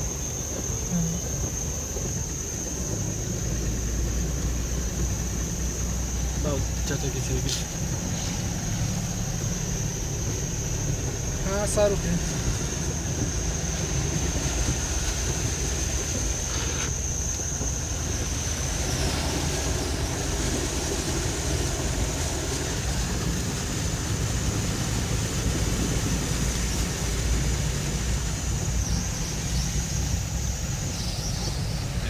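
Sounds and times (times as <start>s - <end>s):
heavy rain: 2.8s - 32.0s.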